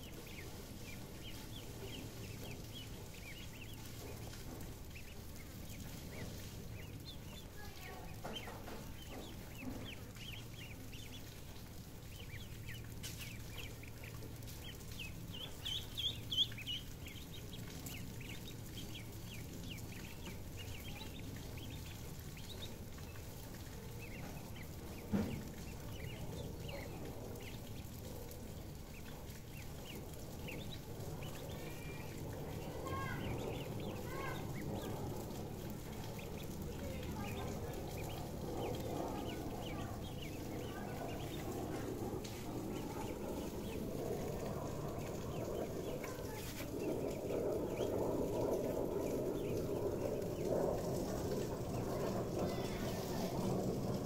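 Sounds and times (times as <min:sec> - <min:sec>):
ducklings peeping: 0:00.0 - 0:54.0
steady low hum: 0:00.0 - 0:54.0.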